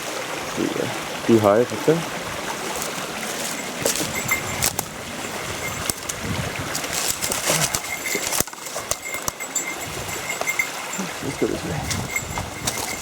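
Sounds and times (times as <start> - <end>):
stream and waterfall rushing: 0.0 - 13.0.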